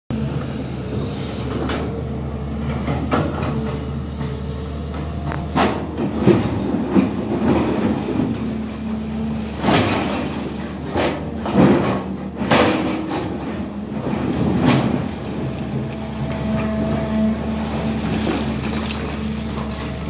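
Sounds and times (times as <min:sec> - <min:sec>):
excavator diesel engine running: 0:00.1 - 0:20.0
metal clanks and knocks: 0:02.6 - 0:20.0.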